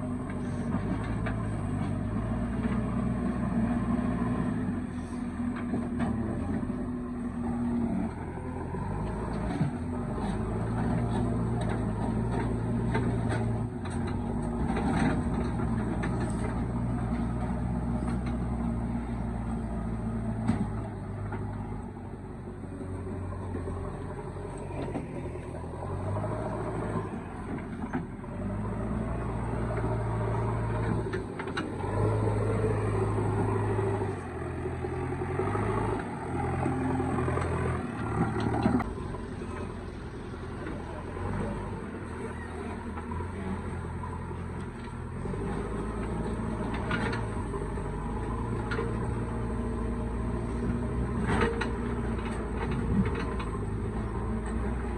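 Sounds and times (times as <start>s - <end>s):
heavy diesel engine working: 0.0s - 54.9s.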